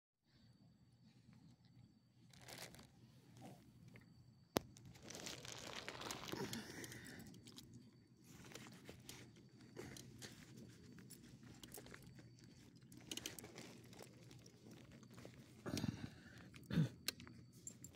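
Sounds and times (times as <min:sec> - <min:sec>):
rustling and crinkling: 0:02.2 - 0:17.9.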